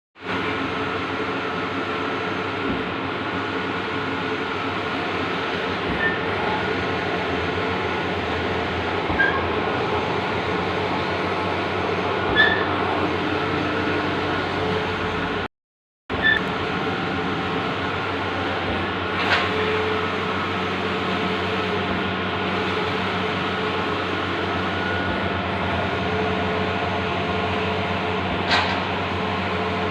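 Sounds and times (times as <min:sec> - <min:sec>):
printer mechanical hum and hiss: 0:00.2 - 0:15.5, 0:16.1 - 0:29.9.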